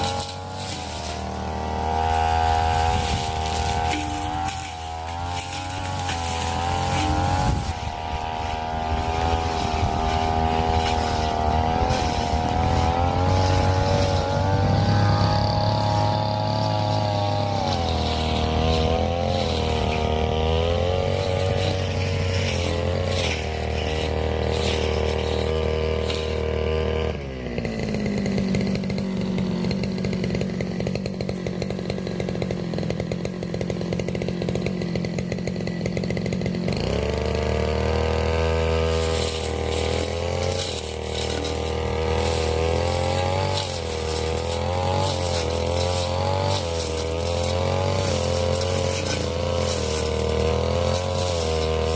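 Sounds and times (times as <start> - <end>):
blade striking brush: 0.0 - 27.2, 36.7 - 51.9
brush cutter engine running: 0.0 - 51.9.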